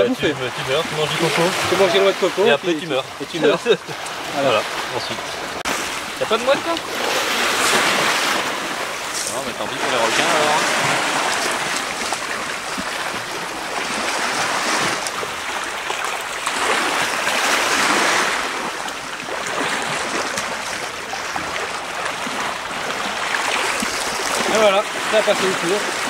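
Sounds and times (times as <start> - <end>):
small waves lapping on gravel shore: 0.0 - 26.0.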